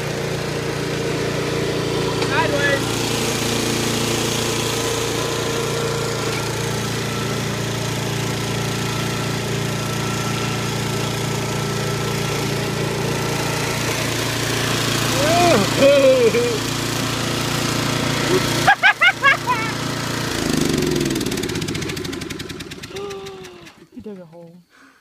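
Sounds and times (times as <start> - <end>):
riding mower engine running: 0.0 - 24.2.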